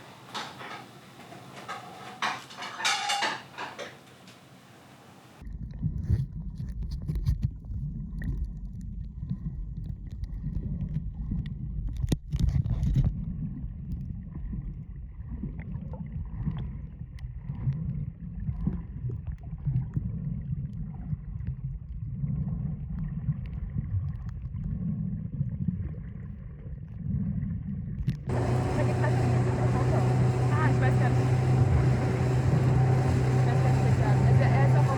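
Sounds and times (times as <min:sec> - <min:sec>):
muffled underwater water rumble: 0:05.4 - 0:34.9.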